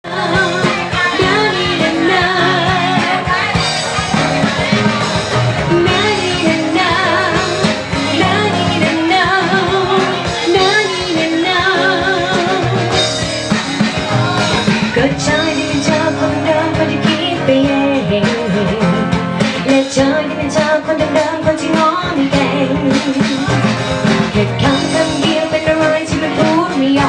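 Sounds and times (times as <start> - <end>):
person singing: 0.0 - 27.0
pop song with steady beat: 0.0 - 27.0.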